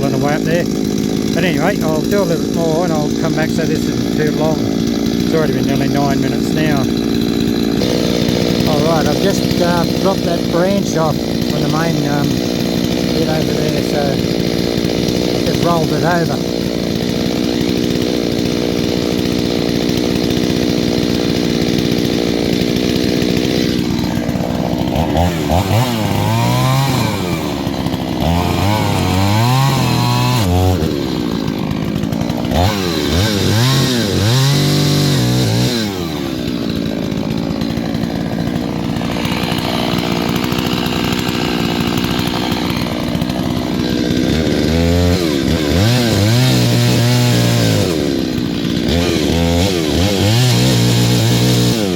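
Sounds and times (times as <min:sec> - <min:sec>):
chainsaw cutting through wood: 0:00.0 - 0:51.9
chainsaw revving: 0:00.0 - 0:51.9.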